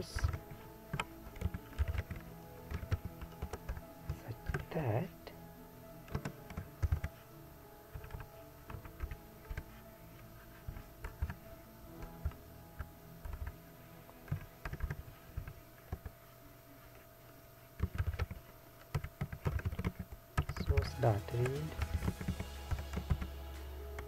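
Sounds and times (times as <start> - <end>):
keyboard typing: 0.2 - 5.2, 6.0 - 7.3, 7.9 - 9.8, 10.5 - 13.6, 14.3 - 16.2, 17.8 - 24.0.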